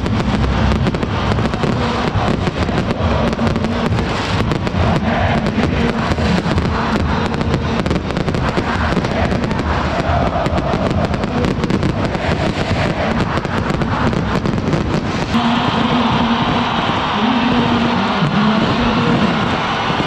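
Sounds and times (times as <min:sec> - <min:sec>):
fireworks crackling and banging: 0:00.0 - 0:20.0
stadium crowd noise: 0:00.0 - 0:20.0.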